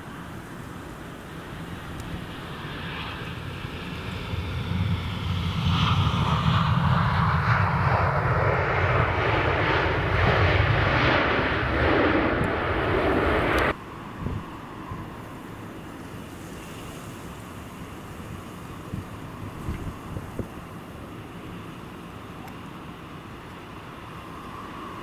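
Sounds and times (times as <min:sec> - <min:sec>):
airliner engines rumbling: 0:00.0 - 0:25.0
rush of wind: 0:00.0 - 0:25.0.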